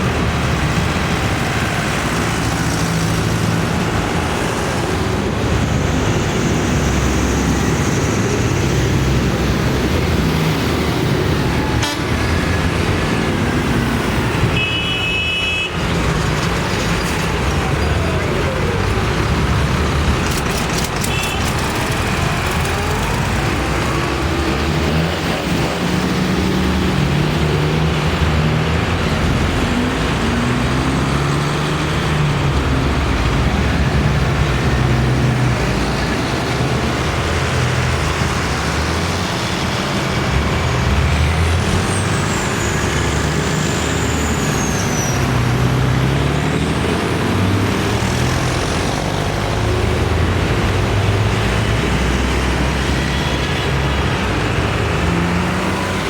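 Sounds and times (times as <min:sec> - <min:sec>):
tractor engines driving past: 0:00.0 - 0:56.0.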